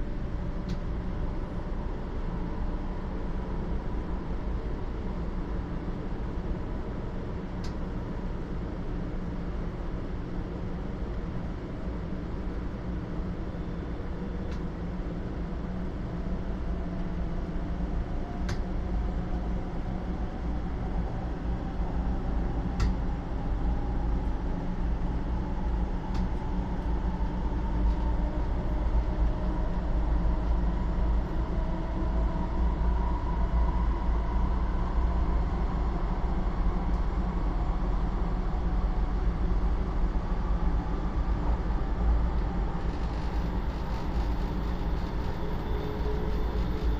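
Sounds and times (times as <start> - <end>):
train running rumble: 0.0 - 46.9.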